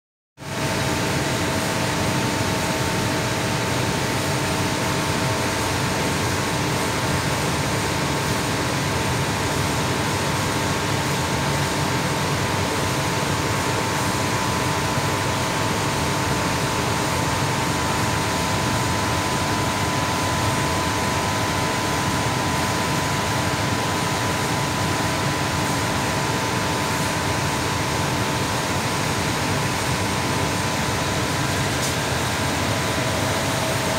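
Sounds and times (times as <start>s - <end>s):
air conditioner blower rushing air: 0.4s - 33.9s.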